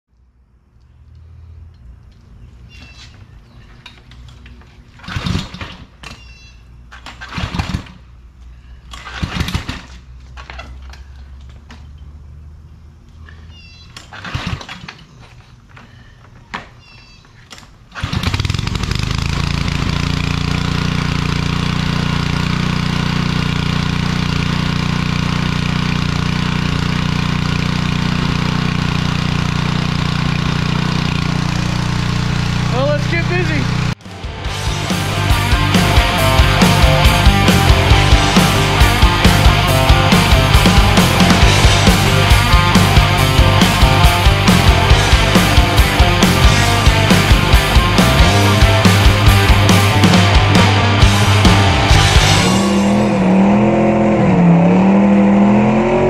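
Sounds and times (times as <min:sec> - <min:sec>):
engine starting and running: 0:03.8 - 0:16.0, 0:17.5 - 0:56.0.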